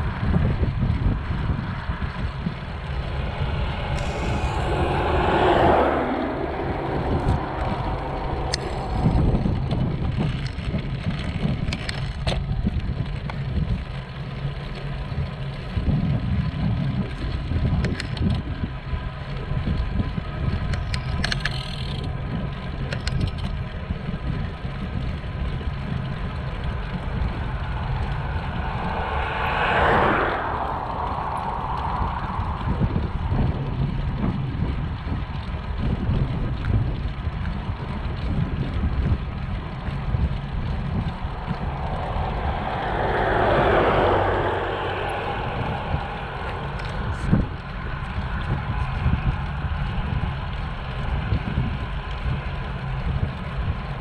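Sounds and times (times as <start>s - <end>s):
bicycle road noise: 0.0s - 54.0s
wind rumbling on microphone: 0.0s - 54.0s.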